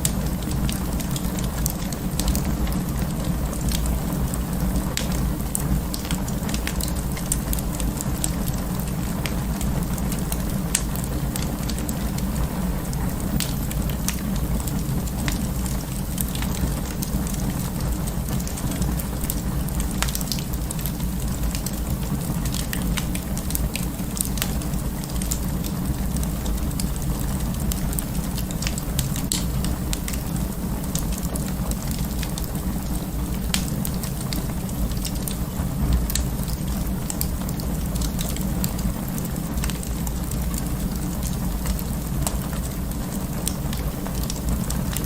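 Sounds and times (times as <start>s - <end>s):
fire crackling and popping: 0.0s - 45.0s
low rumble of flames: 0.0s - 45.0s.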